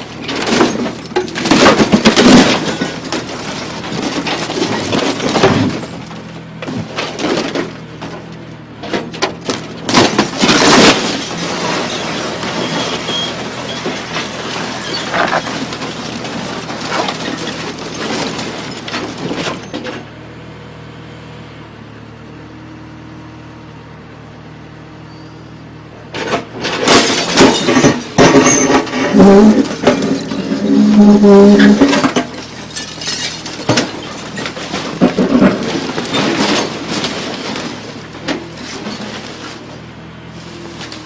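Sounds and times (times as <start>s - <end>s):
boards cracking and crashing: 0.0s - 19.6s, 26.2s - 39.7s
backhoe engine running: 0.0s - 41.0s.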